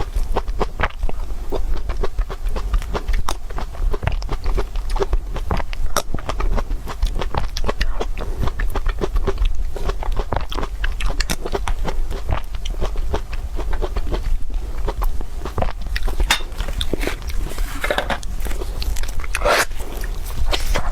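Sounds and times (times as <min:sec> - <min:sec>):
chewing crunchy food: 0:00.0 - 0:20.9.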